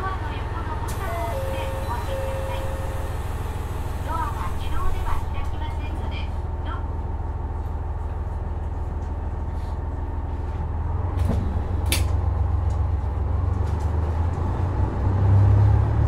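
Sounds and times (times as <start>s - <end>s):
diesel railcar engine drone: 0.0s - 16.0s.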